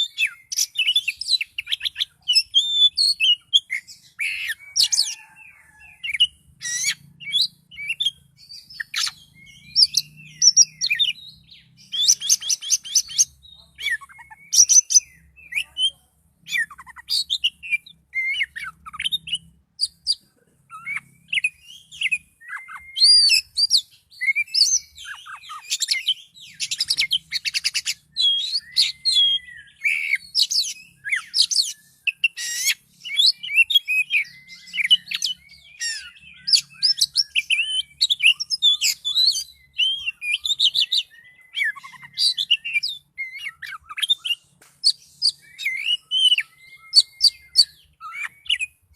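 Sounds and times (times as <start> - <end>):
bird singing varied phrases: 0.0 - 48.9.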